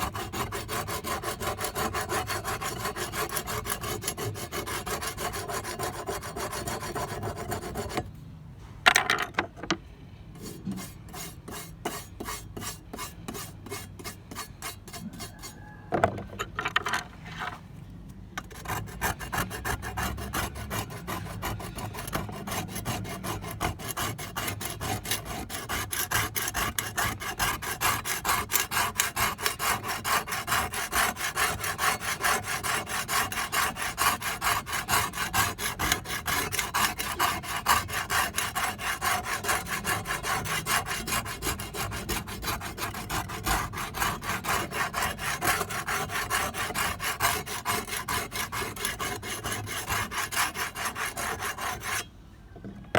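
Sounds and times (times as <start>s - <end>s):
hand-sanding rasping strokes: 0.0s - 8.0s, 10.4s - 15.6s, 18.4s - 52.1s.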